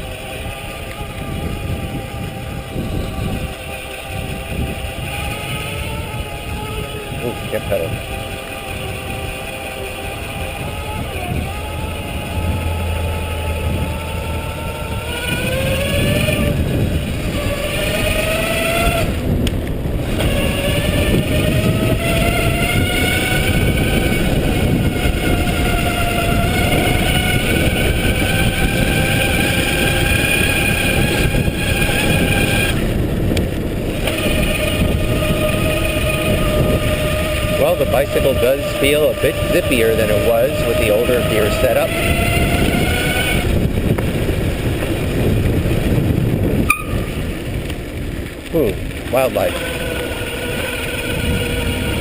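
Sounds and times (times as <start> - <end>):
electric bike motor whining: 0.0 - 52.0
wind rumble on microphone: 0.0 - 52.0.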